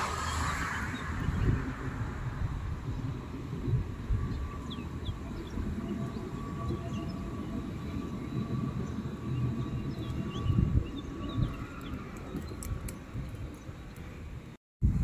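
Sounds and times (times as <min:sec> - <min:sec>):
tram wheels rumbling on rails: 0:00.0 - 0:14.5.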